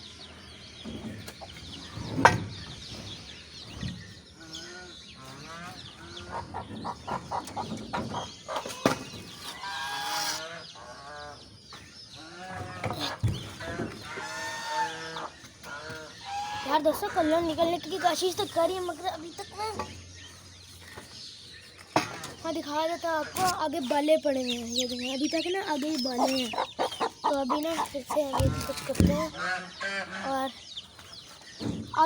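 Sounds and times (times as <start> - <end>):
chickens clucking: 0.0 - 32.0
chicks cheeping: 0.0 - 32.0.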